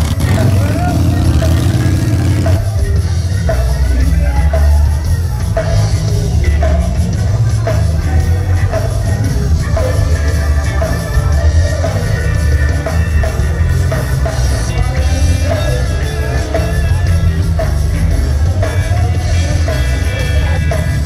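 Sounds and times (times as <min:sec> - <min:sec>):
heavy bass beat: 0:00.0 - 0:21.0
rock music with guitar and drums: 0:00.0 - 0:21.0.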